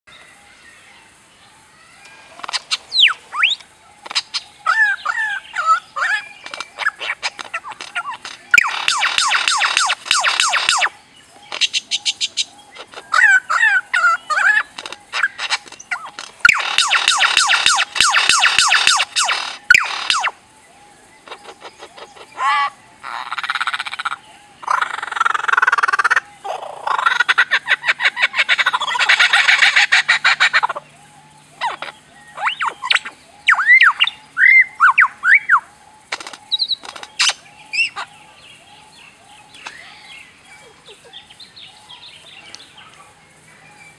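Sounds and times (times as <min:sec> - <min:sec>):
lyrebird singing: 0:00.1 - 0:43.9.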